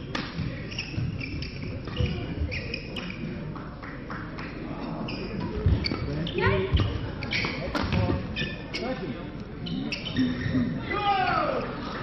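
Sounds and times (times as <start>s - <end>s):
shoes squeaking on court floor: 0.0s - 3.4s, 4.8s - 11.6s.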